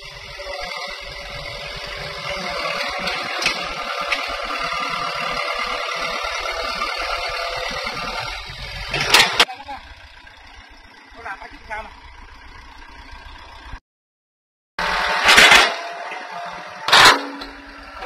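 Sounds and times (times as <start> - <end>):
excavator diesel engine running: 0.0 - 13.8, 14.8 - 18.0.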